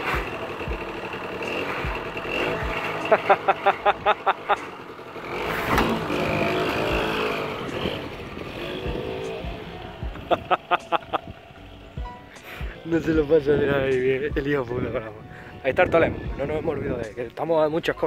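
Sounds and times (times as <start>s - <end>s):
moped engine revving: 0.0s - 15.2s.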